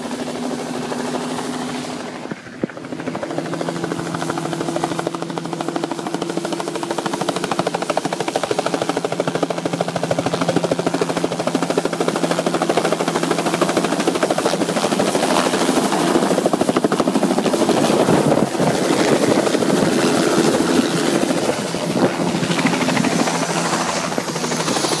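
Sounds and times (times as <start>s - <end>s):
helicopter rotor blades chopping: 0.0s - 25.0s.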